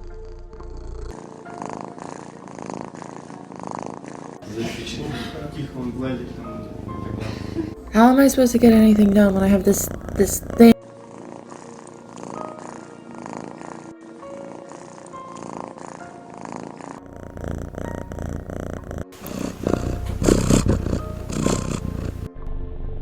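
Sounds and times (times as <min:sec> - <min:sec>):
cat snoring: 0:00.0 - 0:04.6, 0:06.8 - 0:22.4
quiet music: 0:00.0 - 0:23.0.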